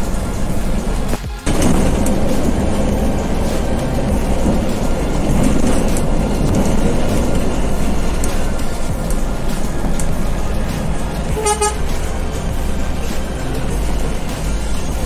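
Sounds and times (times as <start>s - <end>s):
coach engine: 0.0s - 15.0s
road noise: 0.0s - 15.0s.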